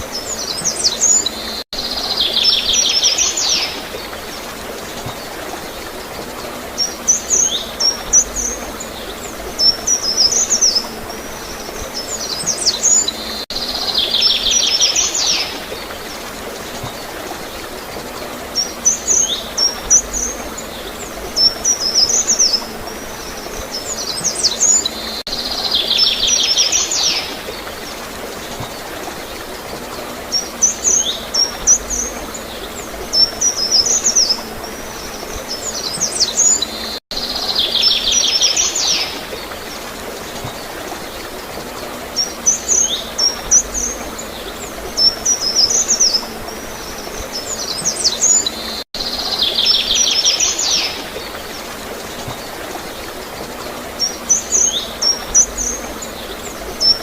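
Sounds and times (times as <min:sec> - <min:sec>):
gurgling flowing water: 0:00.0 - 0:57.0
songbirds chirping: 0:00.0 - 0:57.0.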